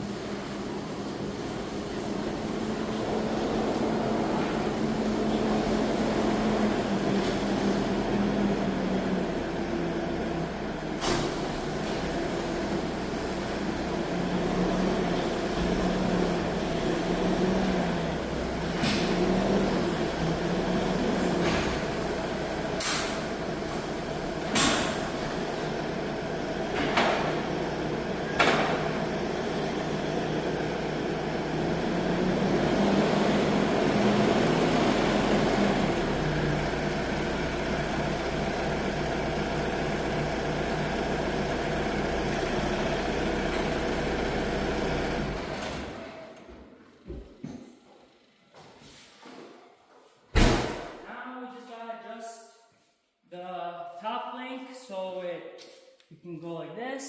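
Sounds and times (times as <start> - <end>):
tractor engine running: 0.0 - 46.3.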